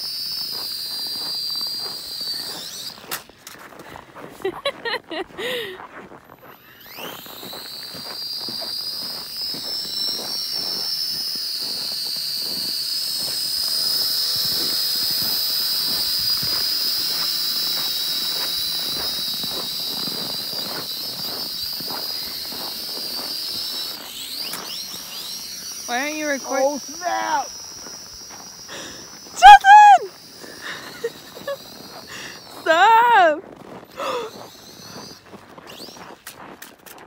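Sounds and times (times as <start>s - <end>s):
toy drone propellers whining: 0.0s - 37.0s.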